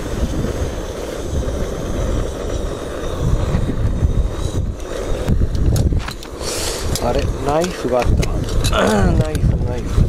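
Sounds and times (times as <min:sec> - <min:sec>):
gas stove burning: 0:00.0 - 0:10.0
gusty wind on microphone: 0:00.0 - 0:10.0.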